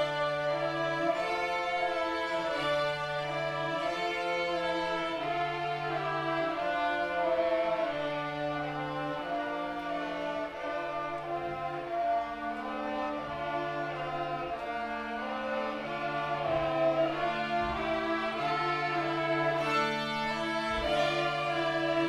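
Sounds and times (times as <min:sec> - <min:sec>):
violins playing long notes: 0:00.0 - 0:22.0.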